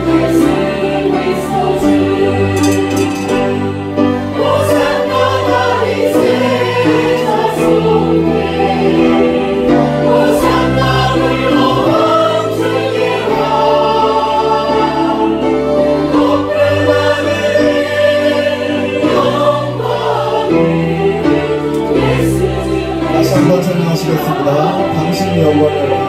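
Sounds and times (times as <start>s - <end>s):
accompanying music: 0.0s - 26.0s
congregation singing a hymn: 0.0s - 26.0s.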